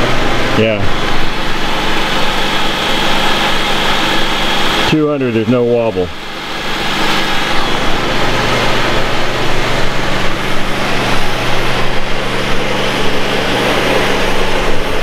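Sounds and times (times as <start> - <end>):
propeller shaft spinning: 0.0 - 15.0.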